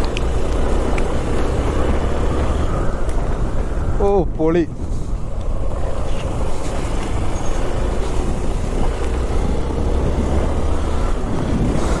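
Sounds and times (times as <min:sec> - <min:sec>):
motorcycle engine drone: 0:00.0 - 0:12.0
tyres on wet road: 0:00.0 - 0:12.0.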